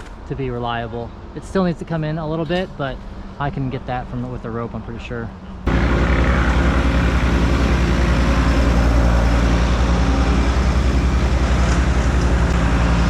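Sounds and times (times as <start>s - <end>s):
heavy engine throbbing: 1.6s - 13.0s.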